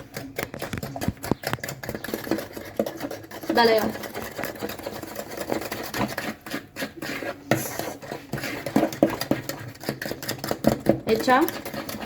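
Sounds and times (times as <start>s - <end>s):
whisk beating in mixing bowl: 0.0s - 12.0s.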